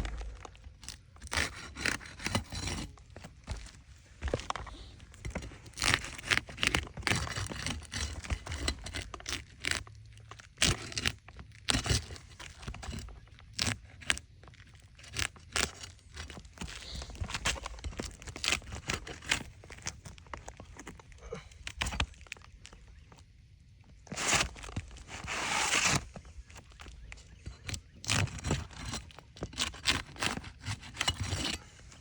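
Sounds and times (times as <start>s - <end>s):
shingles scraping and tearing: 0.0s - 23.3s, 23.9s - 32.0s.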